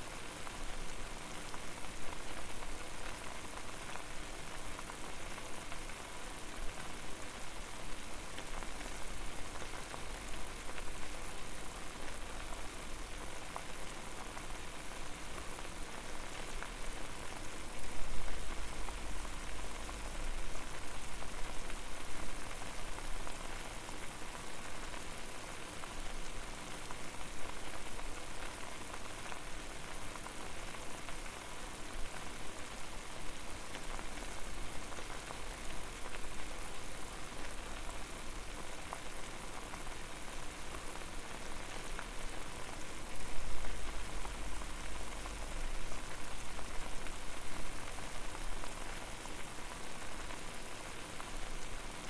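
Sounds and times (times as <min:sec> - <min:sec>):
water boiling with pops: 0:00.0 - 0:52.0.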